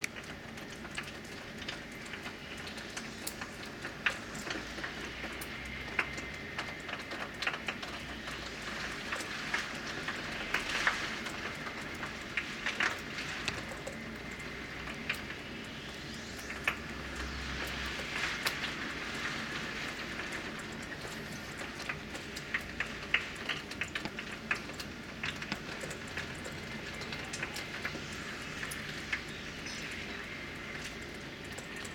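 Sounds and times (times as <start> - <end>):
rain rushing: 0.0 - 31.9
raindrops ticking on glass: 0.0 - 31.9.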